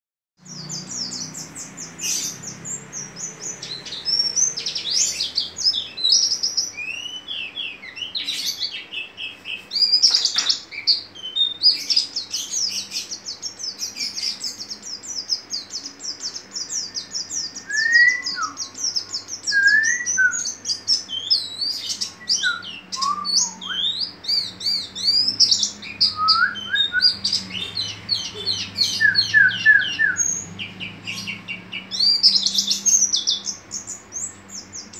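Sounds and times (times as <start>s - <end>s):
bird twittering song: 0.4s - 34.9s
lower whistled bird notes: 0.4s - 34.9s.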